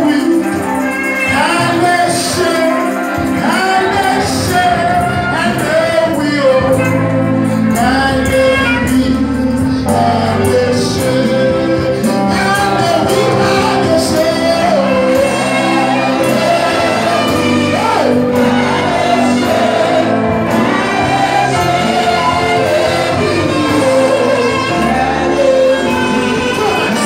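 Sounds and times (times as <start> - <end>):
gospel choir singing: 0.0 - 27.0
sustained instrument backing: 0.1 - 27.0.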